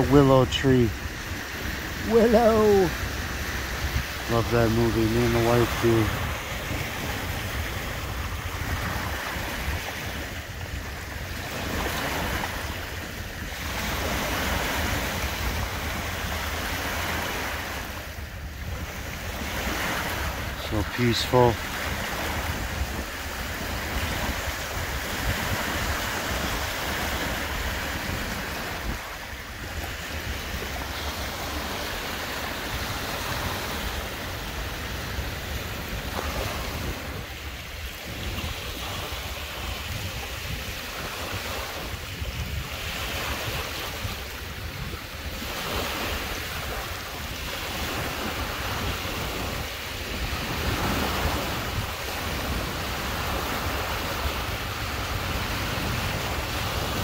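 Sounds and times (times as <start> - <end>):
waves washing against rocks: 0.0 - 57.0
wind buffeting microphone: 0.0 - 57.0.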